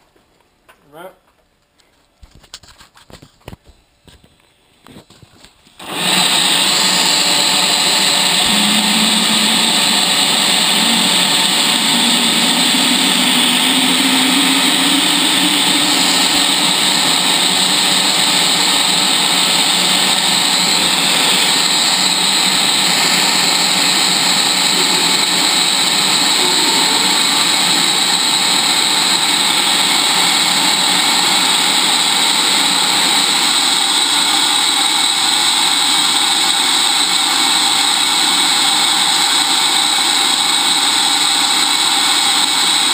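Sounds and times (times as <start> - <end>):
leaf blower roaring: 5.8 - 42.9
turbojet spinning up: 5.8 - 42.9.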